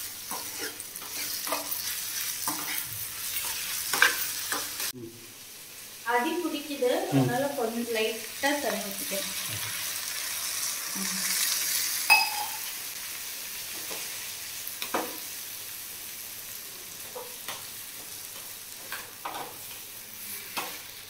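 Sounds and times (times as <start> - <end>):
food sizzling in pan: 0.0 - 21.0.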